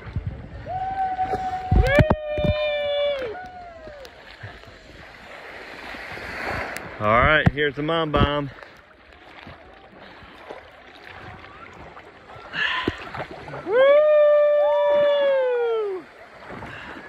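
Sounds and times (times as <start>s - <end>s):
moving water: 0.0s - 17.0s.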